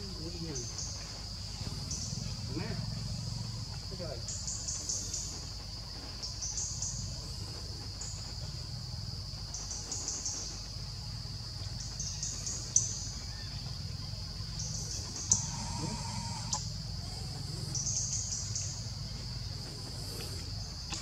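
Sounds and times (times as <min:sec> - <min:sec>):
insects chirping: 0:00.0 - 0:21.0
insects droning: 0:00.0 - 0:21.0.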